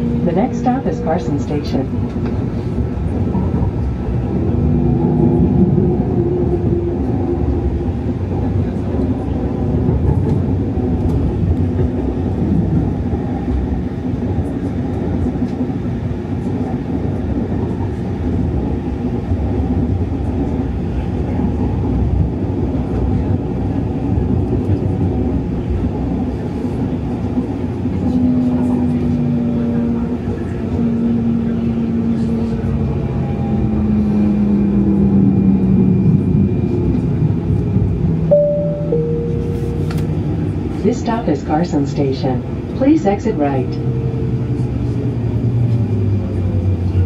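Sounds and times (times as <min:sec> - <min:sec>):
train wheels rumbling on rail: 0:00.0 - 0:38.7, 0:39.3 - 0:47.0.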